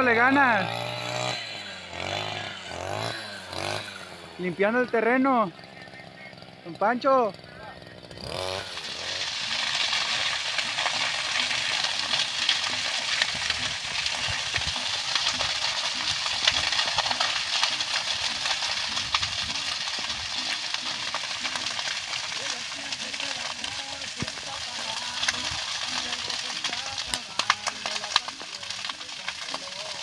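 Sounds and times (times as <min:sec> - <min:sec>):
grass fire crackling and popping: 0:00.0 - 0:30.0.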